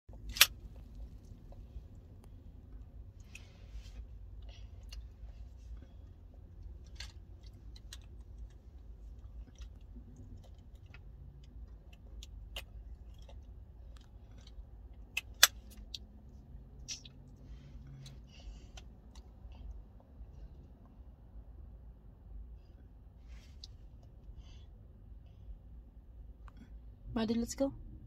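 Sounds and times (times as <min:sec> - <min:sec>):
low car rumble: 0:00.1 - 0:28.0.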